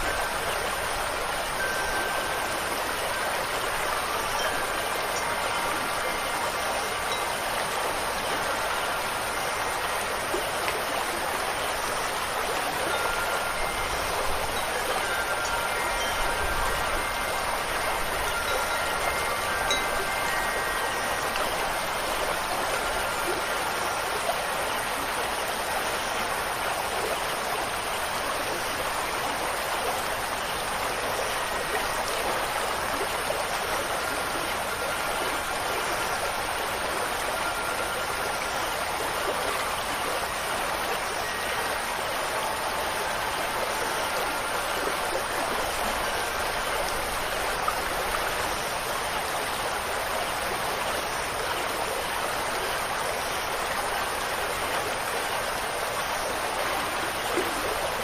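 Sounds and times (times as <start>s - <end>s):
running water rushing: 0.0s - 58.0s
wind chimes ringing: 0.0s - 58.0s.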